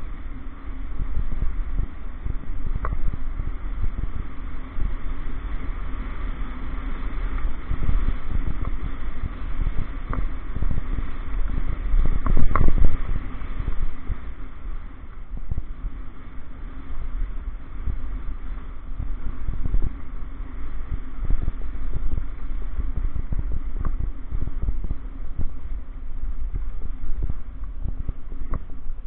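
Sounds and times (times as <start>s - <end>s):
bike rattling: 0.0s - 29.0s.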